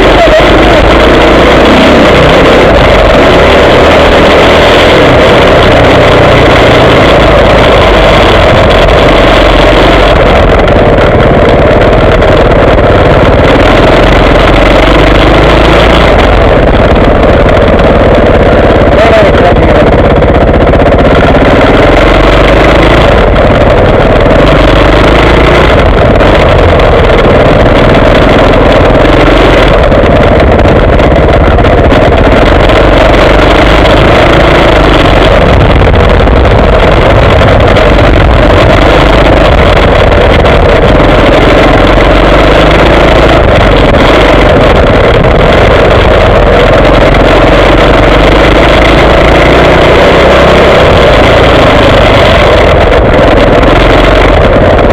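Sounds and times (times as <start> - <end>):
motocross motorcycle engine revving: 0.0 - 54.9.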